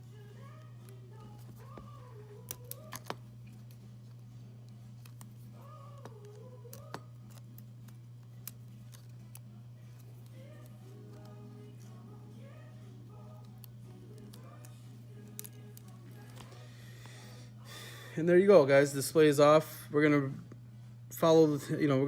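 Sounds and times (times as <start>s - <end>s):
faint background music: 0.0s - 22.0s
steady low hum: 0.0s - 22.0s.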